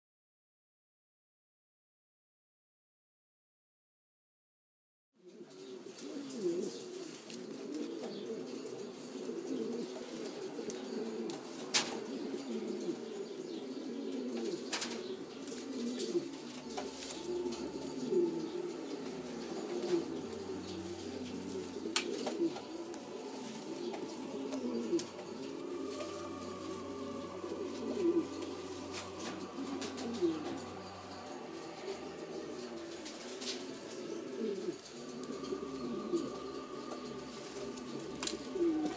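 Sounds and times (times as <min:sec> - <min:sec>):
pigeons cooing: 0:05.2 - 0:38.9.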